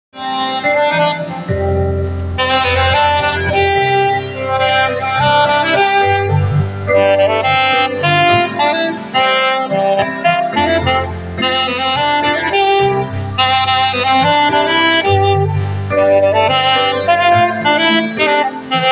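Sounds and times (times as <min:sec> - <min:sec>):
saxophone melody: 0:00.1 - 0:18.9
backing accompaniment with bass: 0:00.2 - 0:18.9.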